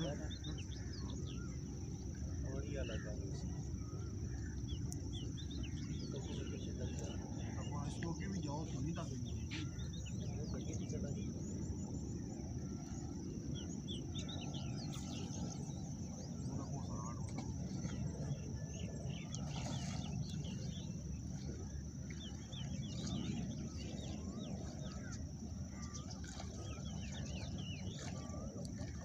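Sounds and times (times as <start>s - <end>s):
low steady rumble: 0.0s - 29.0s
many birds chirping: 0.0s - 29.0s.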